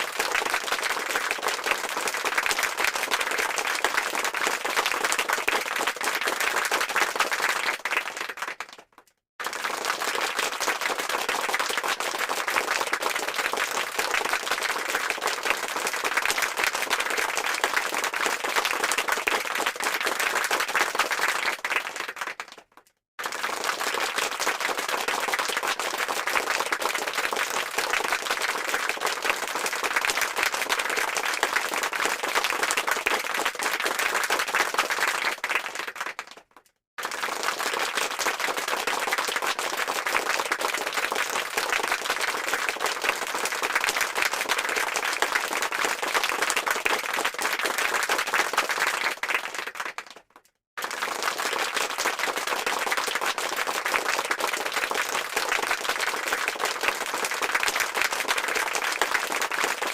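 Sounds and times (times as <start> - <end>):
crowd clapping: 0.0 - 59.9.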